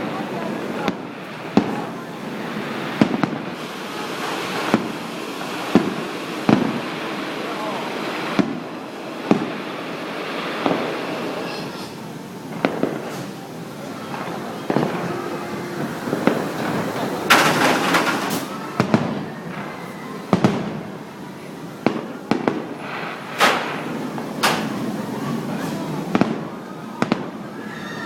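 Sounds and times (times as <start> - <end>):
fireworks bangs: 0.0 - 27.6
fireworks crackling: 0.0 - 28.0.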